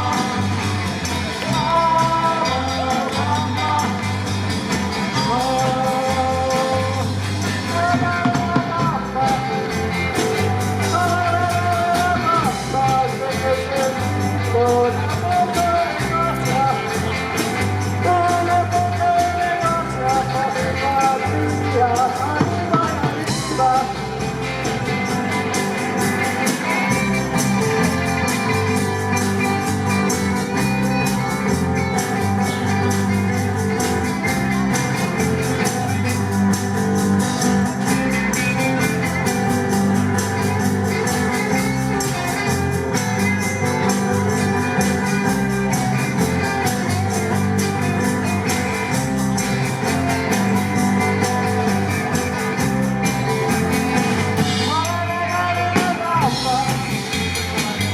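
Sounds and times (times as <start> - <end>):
live band playing: 0.0 - 57.9.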